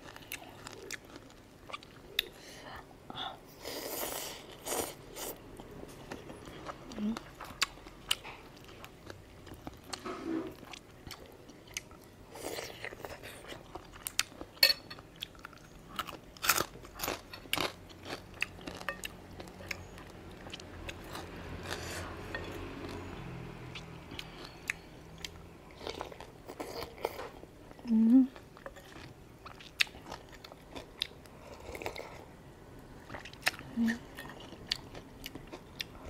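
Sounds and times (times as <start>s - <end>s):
person chewing crunchy food: 0.0s - 2.4s, 3.7s - 32.3s, 33.0s - 36.0s.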